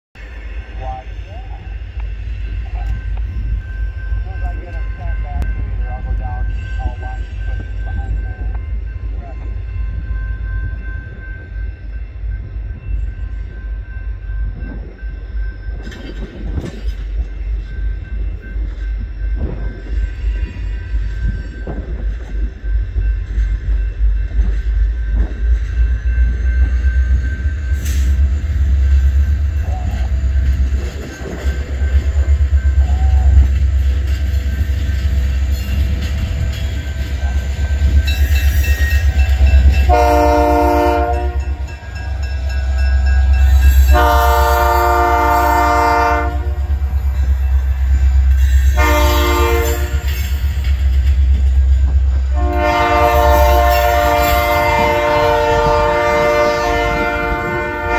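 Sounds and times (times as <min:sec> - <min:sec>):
diesel train deep rumble: 0:00.2 - 0:57.9.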